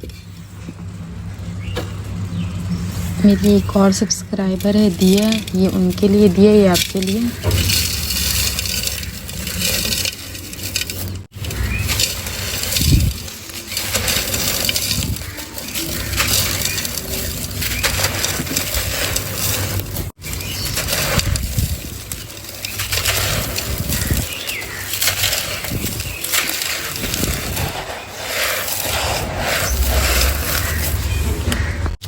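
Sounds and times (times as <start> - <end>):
gritty pieces crunching and crackling: 0.0 - 32.0.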